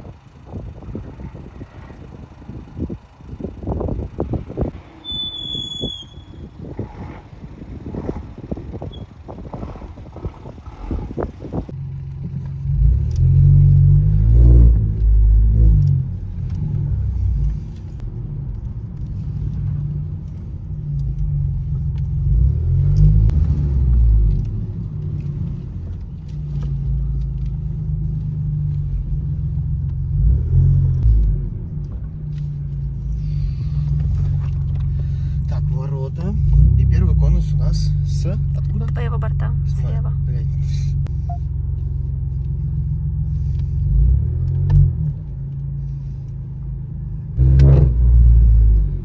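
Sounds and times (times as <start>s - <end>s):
turbo car engine revving: 6.4s - 49.0s.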